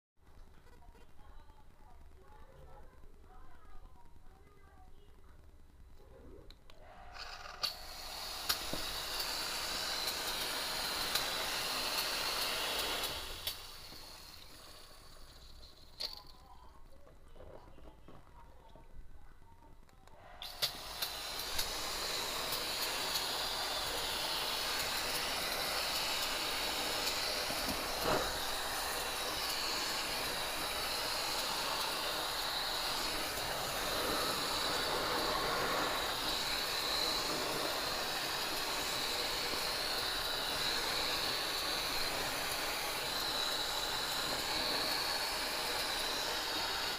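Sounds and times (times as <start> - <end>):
steady hiss: 1.1 - 17.0, 20.2 - 46.9.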